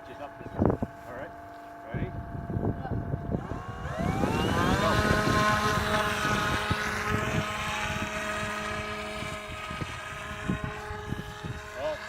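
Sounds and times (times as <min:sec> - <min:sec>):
model aircraft motors whining: 0:00.0 - 0:12.0
wind buffeting microphone: 0:00.0 - 0:12.0.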